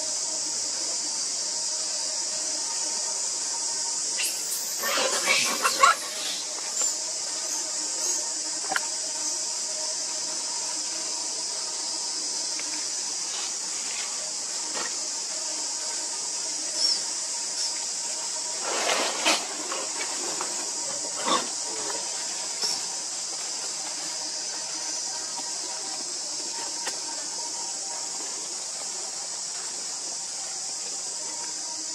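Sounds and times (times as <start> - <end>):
insect chorus hiss: 0.0 - 31.9.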